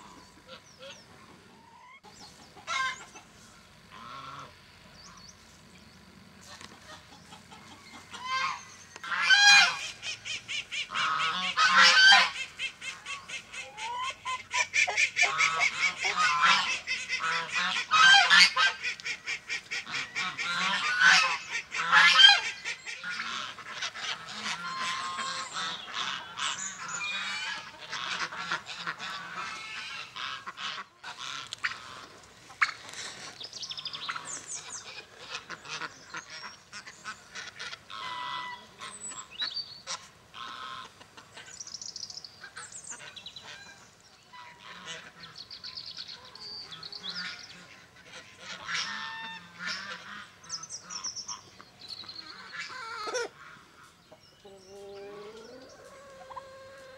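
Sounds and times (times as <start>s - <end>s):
hens clucking: 0.0s - 4.6s, 6.4s - 41.6s, 46.2s - 56.9s
ducks calling: 0.0s - 5.4s, 6.4s - 56.9s
geese honking: 1.6s - 3.2s, 3.9s - 5.2s, 6.4s - 41.5s, 42.4s - 45.4s, 46.2s - 51.6s, 52.3s - 56.9s.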